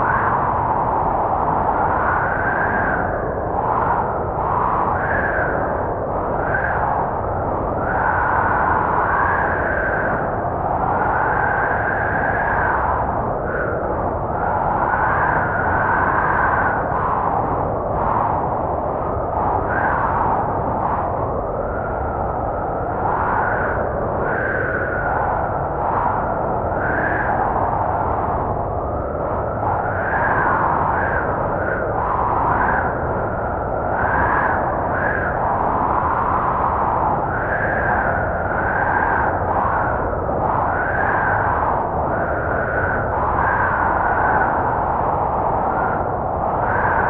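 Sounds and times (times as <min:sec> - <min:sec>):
blizzard wind howling: 0:00.0 - 0:47.0.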